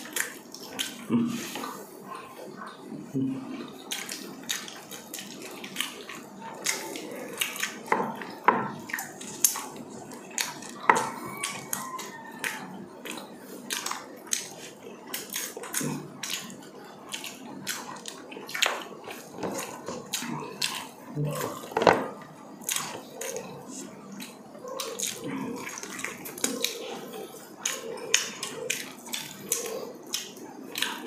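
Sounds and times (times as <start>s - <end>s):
wet chewing and lip-smacking: 0.0s - 2.8s, 3.5s - 21.8s, 22.6s - 31.0s.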